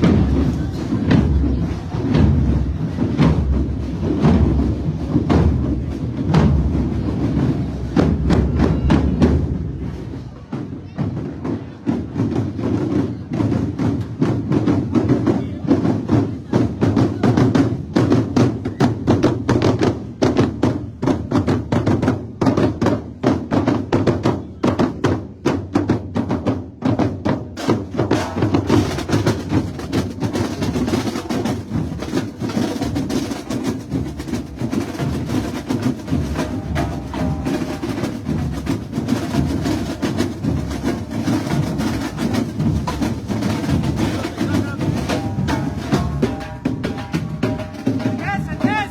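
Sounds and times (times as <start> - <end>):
percussion-led carnival music: 0.0 - 48.9.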